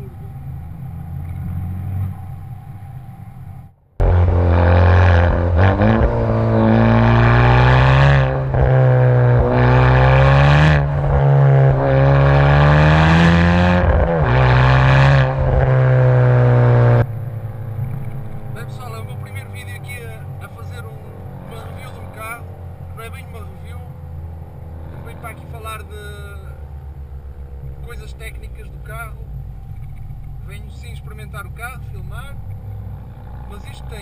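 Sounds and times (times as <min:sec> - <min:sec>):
car engine revving through exhaust: 0:00.0 - 0:34.0.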